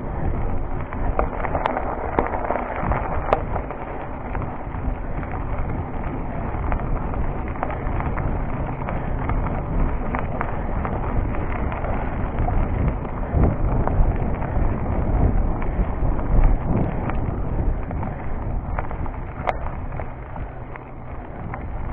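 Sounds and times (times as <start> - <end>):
bike clicks and rattles: 0.0 - 21.9
bike tyres crunching on gravel: 0.0 - 21.9
wind buffeting microphone: 0.0 - 21.9.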